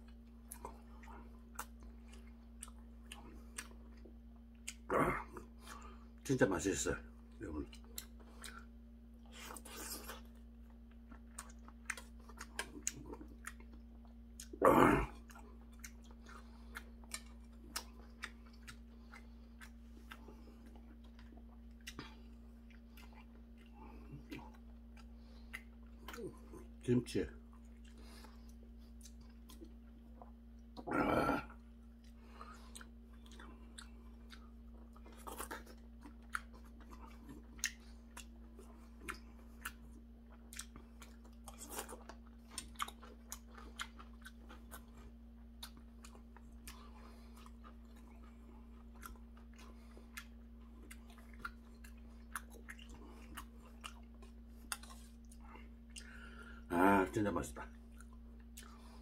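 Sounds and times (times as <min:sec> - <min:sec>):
faint steady hum: 0:00.0 - 0:59.0
person chewing and crunching: 0:00.0 - 0:59.0.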